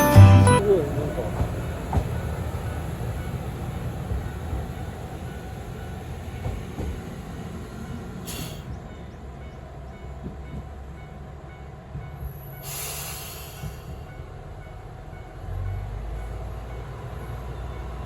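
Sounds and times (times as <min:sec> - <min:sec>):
diesel railcar rumbling: 0:00.0 - 0:18.0.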